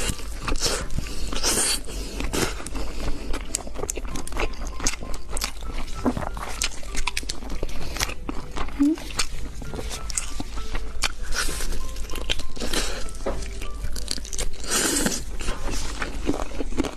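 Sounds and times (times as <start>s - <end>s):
person chewing crunchy food: 0.0s - 16.9s.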